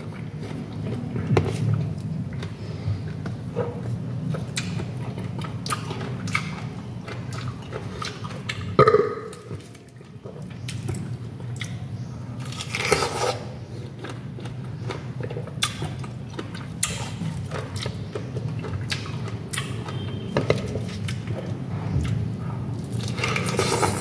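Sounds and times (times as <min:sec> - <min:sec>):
person chewing pineapple: 0:00.0 - 0:24.0.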